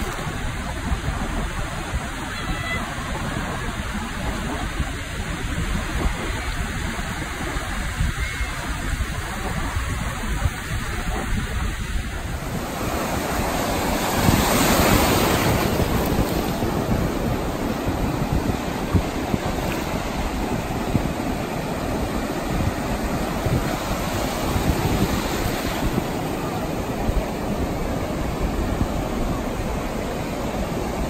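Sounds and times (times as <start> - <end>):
surf washing over sand: 0.0 - 31.0
wind buffeting microphone: 0.0 - 31.0.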